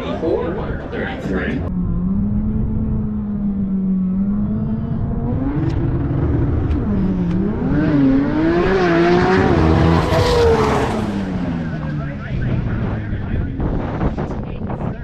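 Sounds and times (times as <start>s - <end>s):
race car engine accelerating: 1.5s - 14.5s.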